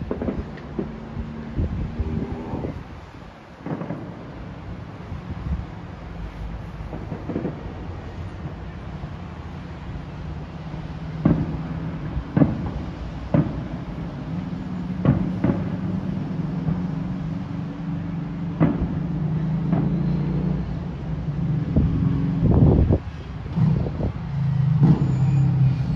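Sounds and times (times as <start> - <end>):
distant fireworks bangs: 0.0 - 25.4.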